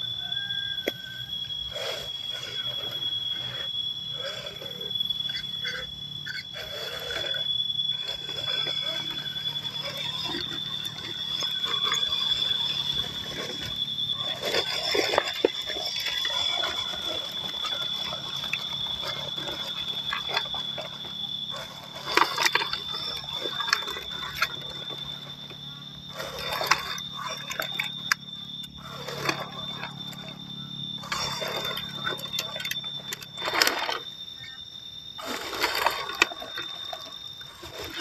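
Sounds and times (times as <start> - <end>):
rc car motor whine: 0.0 - 38.0.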